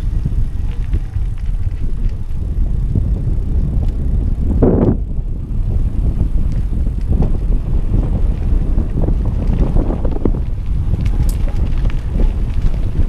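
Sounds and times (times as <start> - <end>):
bicycle clicks and rattles: 0.0 - 13.0
wind buffeting microphone: 0.0 - 13.0.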